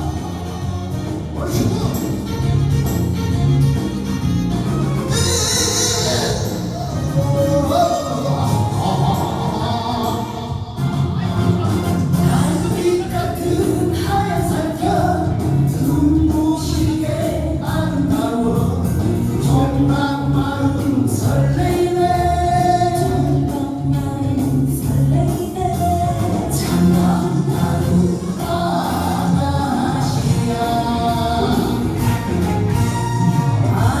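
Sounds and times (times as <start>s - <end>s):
song with steady beat: 0.0s - 34.0s.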